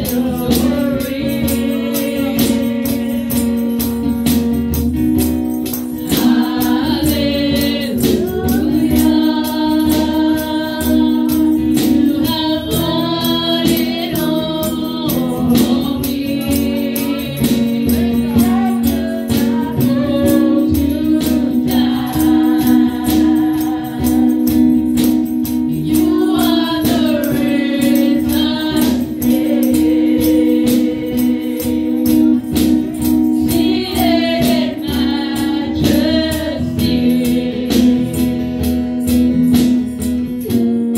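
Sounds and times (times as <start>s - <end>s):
woman singing into microphone: 0.0s - 4.4s, 6.0s - 39.6s
tambourine beat: 0.0s - 40.9s.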